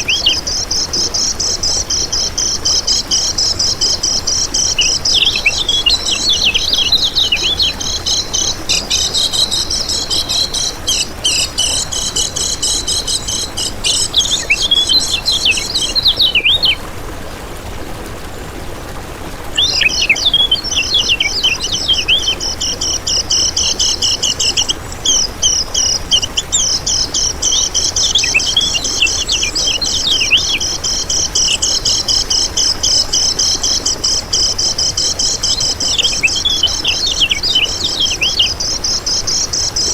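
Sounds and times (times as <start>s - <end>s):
small bird singing chattering trills: 0.0s - 16.8s, 19.5s - 39.9s.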